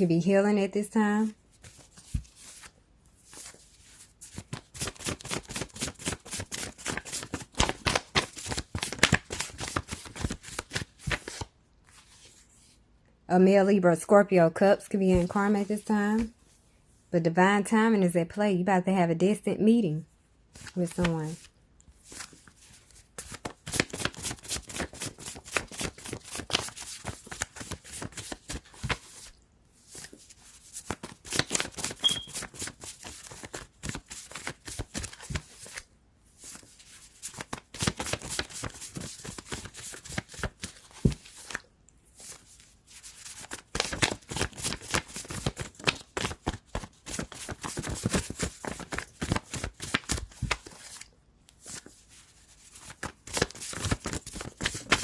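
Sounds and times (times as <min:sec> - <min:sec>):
cards being riffle shuffled: 0:01.6 - 0:12.4, 0:20.6 - 0:35.8, 0:36.4 - 0:55.0.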